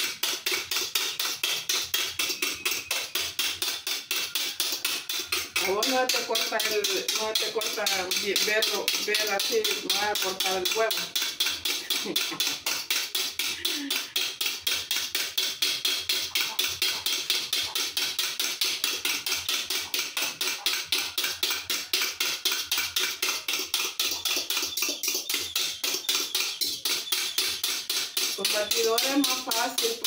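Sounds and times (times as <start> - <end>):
fork beating eggs in bowl: 0.0 - 30.0.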